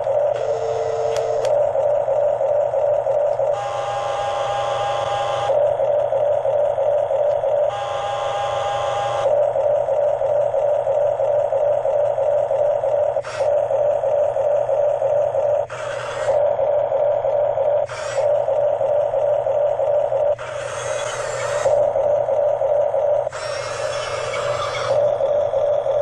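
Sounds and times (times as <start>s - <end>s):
model bulldozer motor whine: 0.0s - 26.0s.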